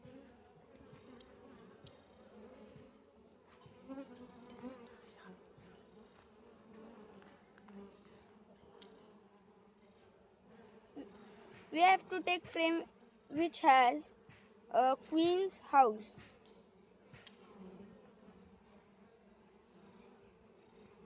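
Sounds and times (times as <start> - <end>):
honey bees buzzing: 0.0 - 21.0.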